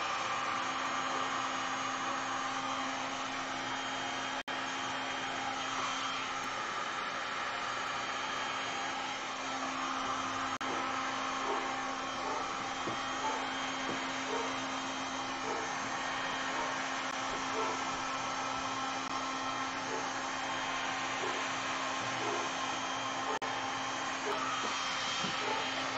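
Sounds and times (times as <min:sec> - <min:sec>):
heat gun blowing: 0:00.0 - 0:25.9.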